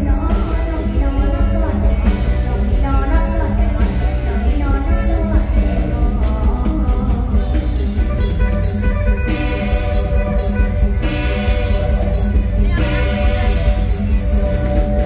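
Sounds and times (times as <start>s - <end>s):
live band music: 0.0s - 15.0s
steady drum beat: 0.0s - 15.0s.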